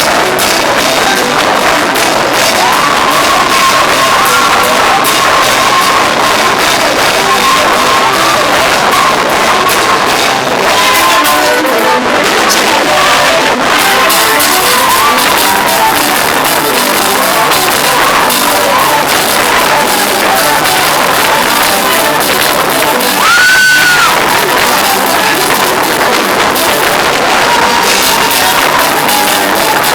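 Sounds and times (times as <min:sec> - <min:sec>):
band playing praise music: 0:00.0 - 0:29.9
crowd singing along: 0:00.0 - 0:29.9.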